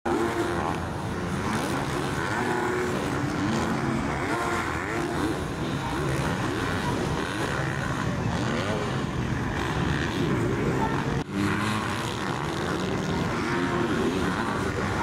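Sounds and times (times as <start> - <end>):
motocross bike engines revving: 0.1 - 15.0.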